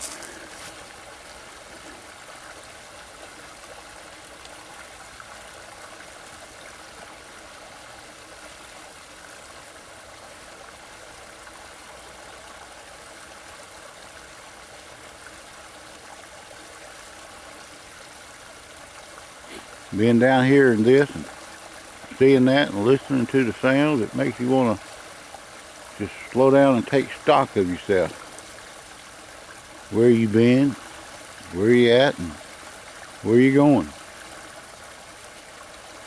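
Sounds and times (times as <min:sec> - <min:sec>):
creek water flowing: 0:00.0 - 0:36.0.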